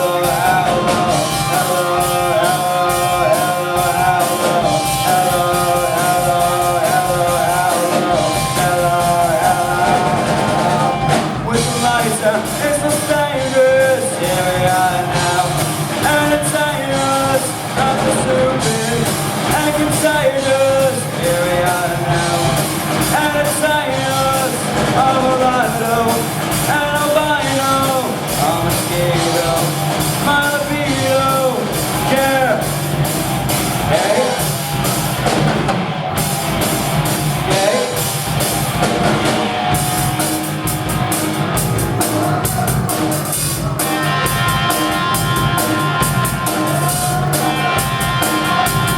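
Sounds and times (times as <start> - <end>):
man singing lead vocal: 0.0 - 35.8, 37.0 - 48.9
live rock band playing: 0.0 - 48.9.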